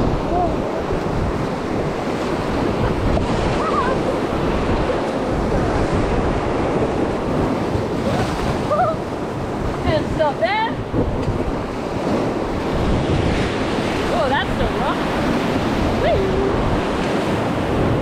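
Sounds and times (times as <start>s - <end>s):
river rapid churning: 0.0s - 18.0s
wind buffeting microphone: 0.0s - 18.0s.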